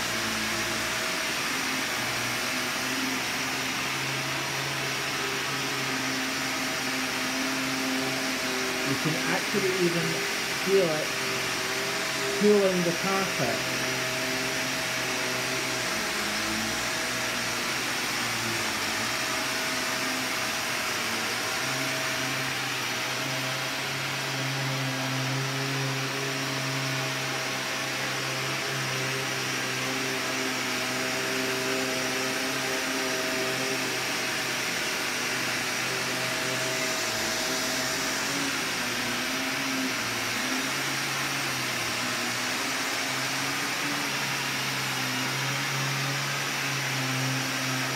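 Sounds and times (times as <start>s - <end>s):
vacuum cleaner running on carpet: 0.0s - 47.9s.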